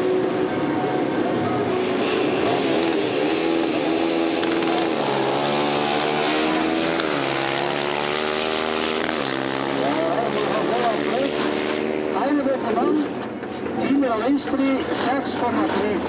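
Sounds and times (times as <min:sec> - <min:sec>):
quad bike engines accelerating: 0:00.0 - 0:16.0.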